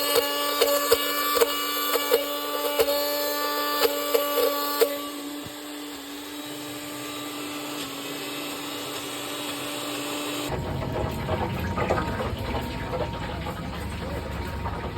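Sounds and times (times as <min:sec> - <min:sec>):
blender motor humming: 0:00.0 - 0:14.9.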